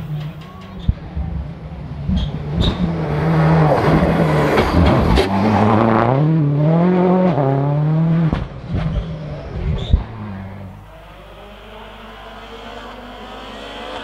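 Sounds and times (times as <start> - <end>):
rally car engine passing: 0.0 - 14.0.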